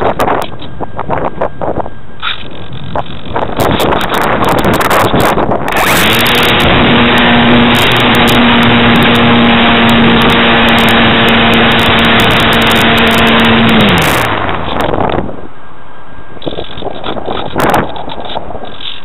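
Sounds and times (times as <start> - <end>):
electric motor and propeller: 0.0 - 15.6, 16.3 - 19.0
wind and airflow noise: 0.0 - 19.0.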